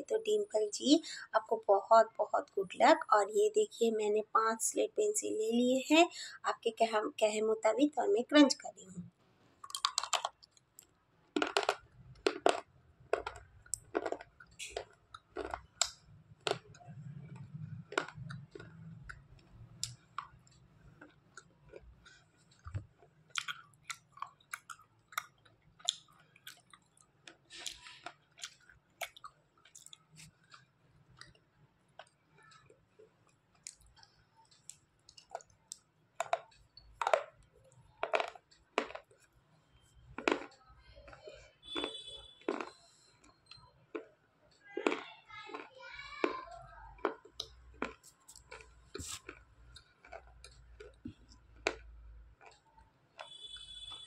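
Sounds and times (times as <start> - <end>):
slate pencils being chewed: 9.6 - 54.0.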